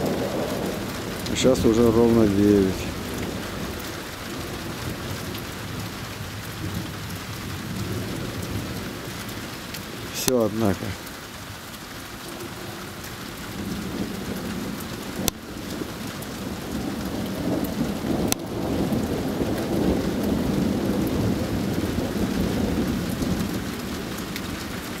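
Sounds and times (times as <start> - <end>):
low roll of thunder: 0.0 - 11.0, 12.4 - 25.0
steady rain falling: 0.0 - 25.0.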